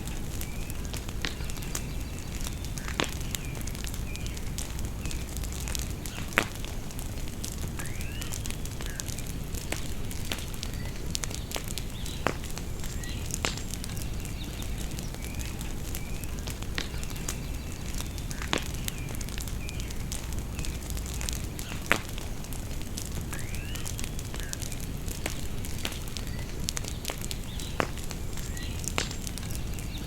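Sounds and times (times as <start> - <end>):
birds chirping: 0.0 - 22.6, 23.2 - 30.0
bonfire crackling and popping: 0.0 - 30.0.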